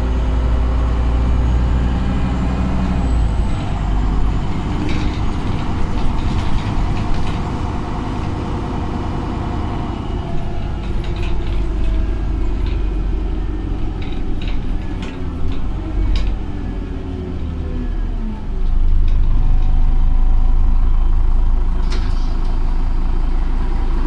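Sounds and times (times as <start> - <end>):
bus engine and road noise: 0.0 - 24.0.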